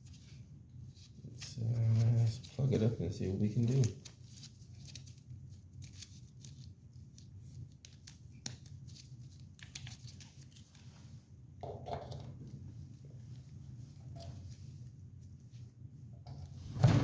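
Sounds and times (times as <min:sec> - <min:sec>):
faint clicks and scrapes of handling: 0:00.0 - 0:11.3, 0:12.0 - 0:16.6
low steady hum: 0:00.0 - 0:17.0.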